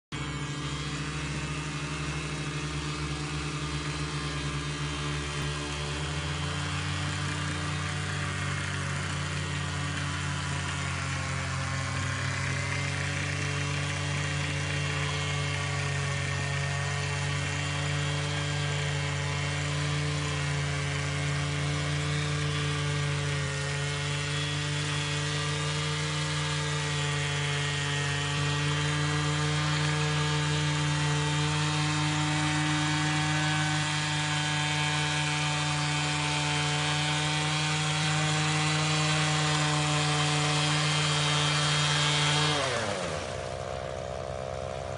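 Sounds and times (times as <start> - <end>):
small engine running: 0.1 - 44.9.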